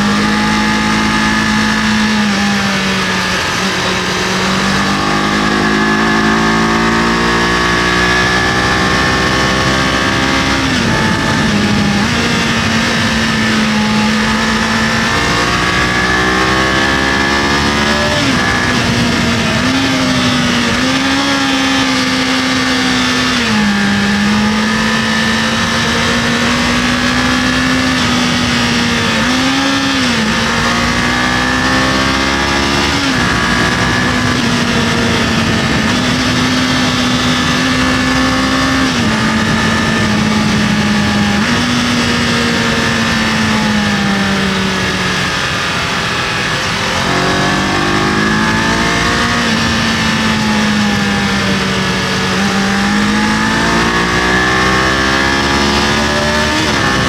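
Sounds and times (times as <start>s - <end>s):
motorcycle engine changing gears: 0.0s - 57.0s
wind and road noise: 0.0s - 57.0s.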